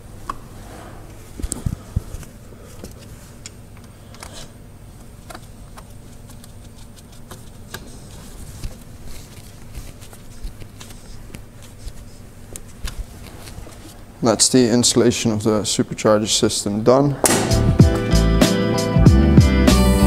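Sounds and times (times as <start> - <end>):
steady low hum: 0.0 - 19.5.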